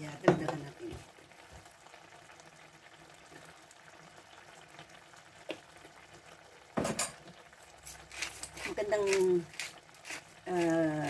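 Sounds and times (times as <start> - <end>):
sauce bubbling and sizzling: 0.0 - 11.0.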